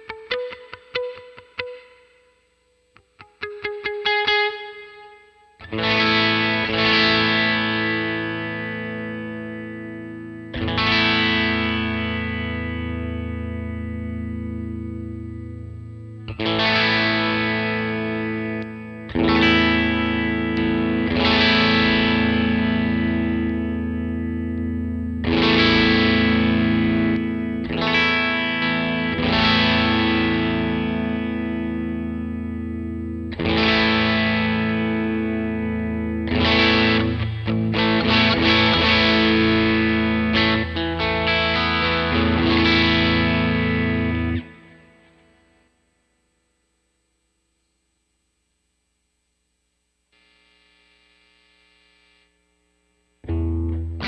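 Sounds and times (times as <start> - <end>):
overdriven electric guitar chords: 0.0 - 46.4, 53.1 - 54.0.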